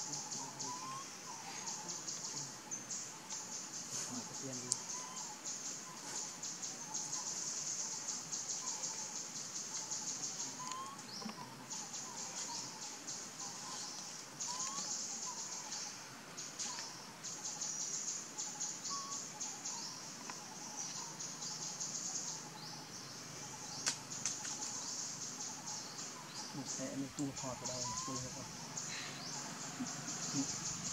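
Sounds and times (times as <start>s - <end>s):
high pulsing insect buzz: 0.0s - 30.9s.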